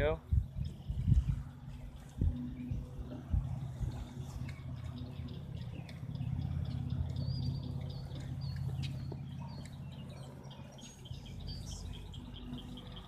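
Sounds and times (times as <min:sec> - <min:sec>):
birds chirping: 0:00.0 - 0:13.0
low rumble: 0:00.2 - 0:13.0.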